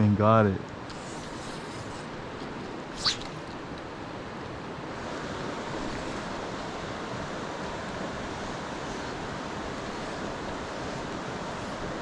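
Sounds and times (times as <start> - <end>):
river rushing over rocks: 2.0 - 12.0.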